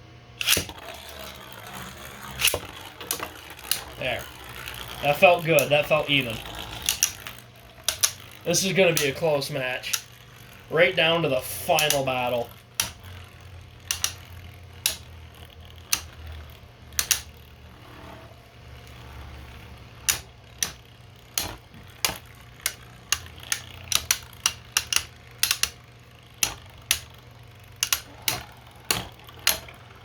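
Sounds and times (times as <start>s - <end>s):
steady low hum: 0.0s - 30.0s
spinning tops clashing: 0.4s - 17.7s, 18.7s - 30.0s.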